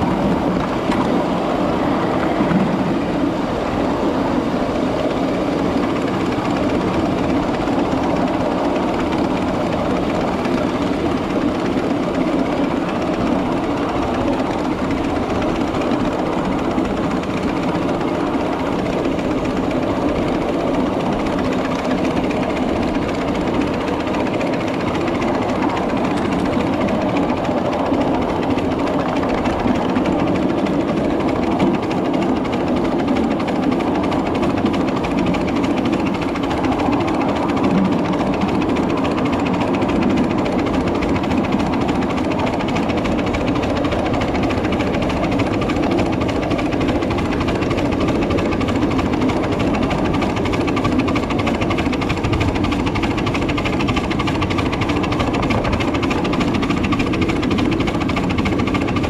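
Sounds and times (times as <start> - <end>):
miniature train rattling rumble: 0.0 - 59.0.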